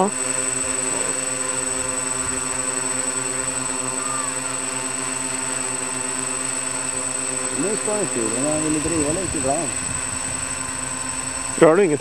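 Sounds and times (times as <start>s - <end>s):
drone motors buzzing: 0.0s - 12.0s.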